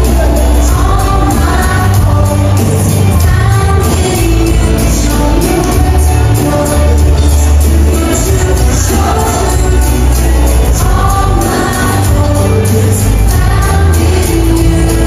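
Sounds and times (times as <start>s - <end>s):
song with singing and strong bass: 0.0s - 15.0s.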